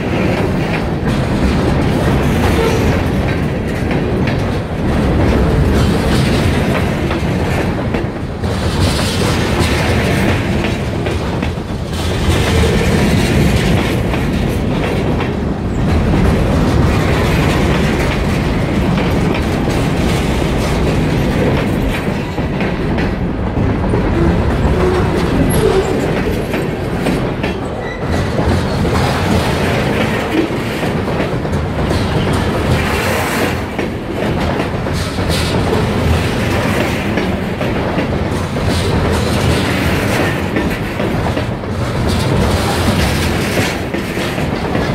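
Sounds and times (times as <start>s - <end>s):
freight train wheels on rails: 0.0s - 44.9s.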